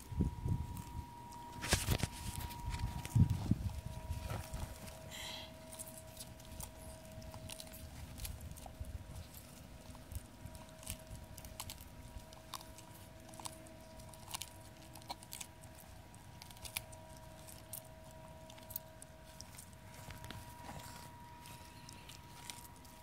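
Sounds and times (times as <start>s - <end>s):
faint steady tone: 0.0s - 23.0s
tortoises chewing cactus: 0.0s - 23.0s.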